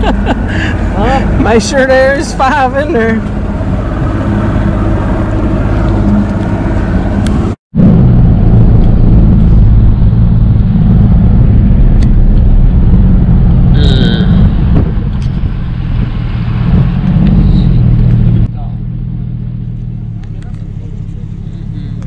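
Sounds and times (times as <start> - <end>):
vehicle driving on highway: 0.0 - 22.0.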